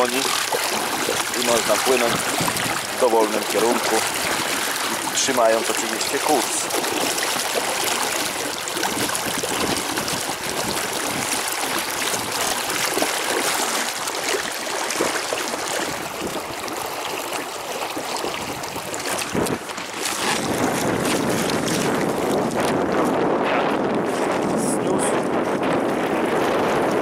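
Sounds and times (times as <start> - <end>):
water rushing and splashing: 0.0 - 27.0
wind on microphone: 0.0 - 27.0.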